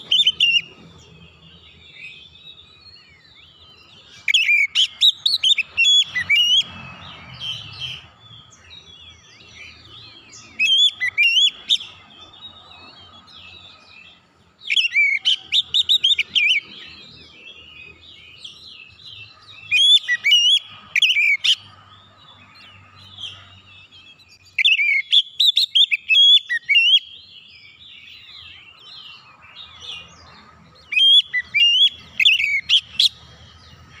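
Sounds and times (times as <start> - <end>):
soft bird twittering: 0.0 - 34.0
songbird whistling song: 0.0 - 34.0.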